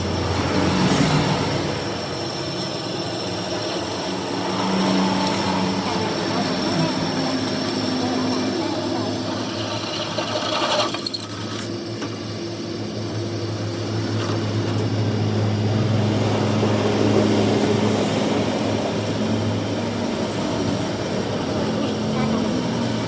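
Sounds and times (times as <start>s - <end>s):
machine motor humming: 0.0s - 23.0s.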